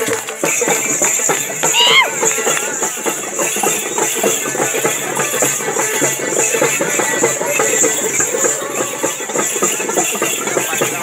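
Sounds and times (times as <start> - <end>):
folk drumming: 0.0 - 11.0.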